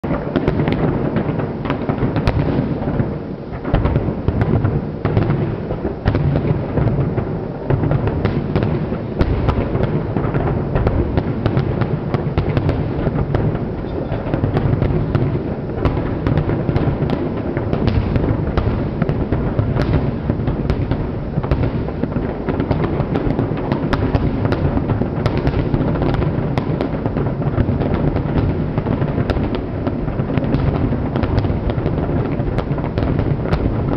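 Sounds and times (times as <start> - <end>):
deep booming firework explosions: 0.0 - 33.9
firework cracks and pops: 0.0 - 33.9.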